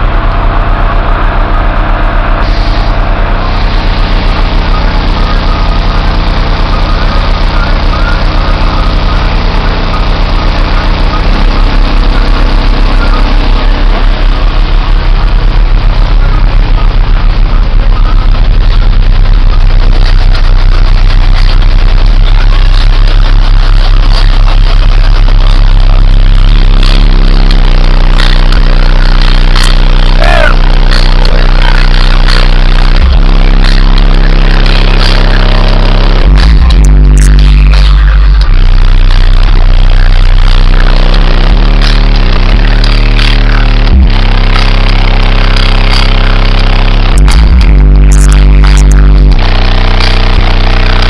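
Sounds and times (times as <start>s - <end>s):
loud distorted pulsing bass tone: 0.0s - 51.0s.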